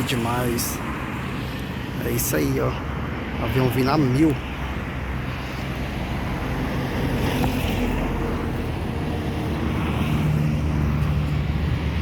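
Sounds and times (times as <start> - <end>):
distant jet engines rushing: 0.0 - 12.0.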